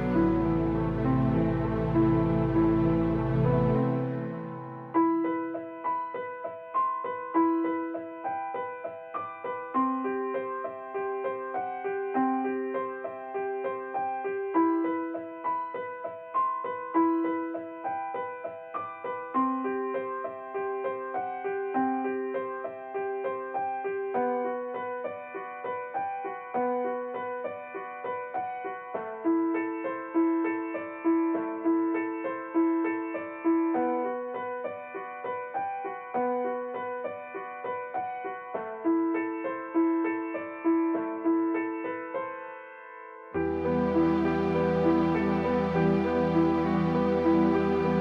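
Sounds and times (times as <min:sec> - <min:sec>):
gentle piano music: 0:00.0 - 0:48.0.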